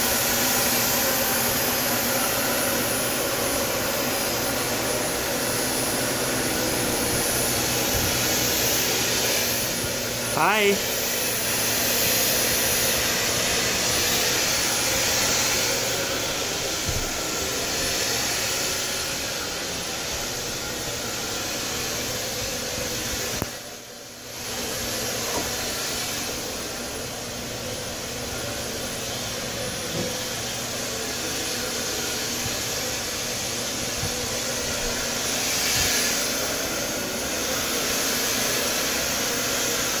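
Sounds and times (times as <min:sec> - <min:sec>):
vacuum cleaner running over carpet: 0:00.0 - 0:40.0.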